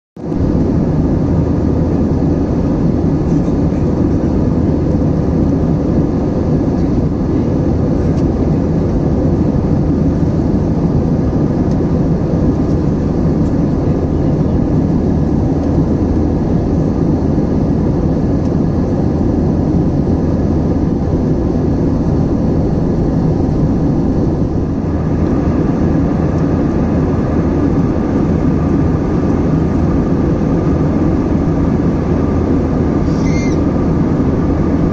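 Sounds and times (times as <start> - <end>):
jet engine and airflow rumble: 0.2 - 34.9.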